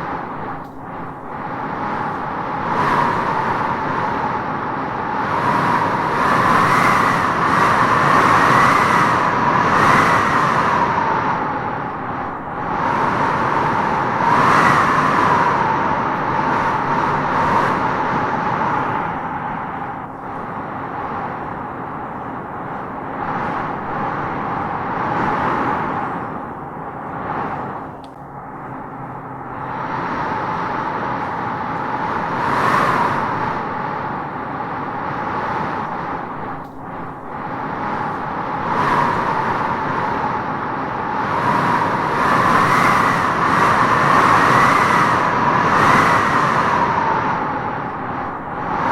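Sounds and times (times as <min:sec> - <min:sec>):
wind howling through trees: 0:00.0 - 0:48.9.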